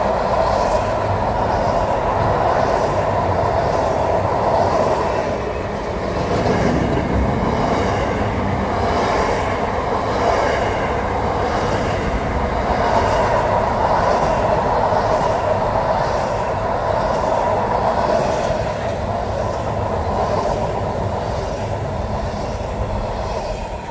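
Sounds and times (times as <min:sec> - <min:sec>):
freight train wheels on rails: 0:00.0 - 0:23.9.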